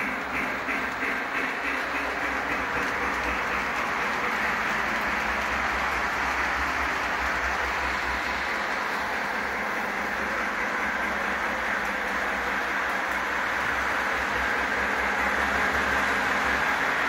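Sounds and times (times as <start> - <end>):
low rumble of train on track: 0.0 - 17.0
toy steam train hissing: 0.0 - 17.0.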